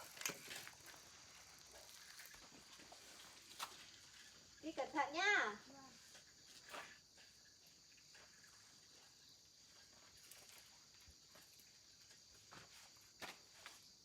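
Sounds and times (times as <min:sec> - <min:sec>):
faint high-pitched hiss: 0:00.0 - 0:14.0.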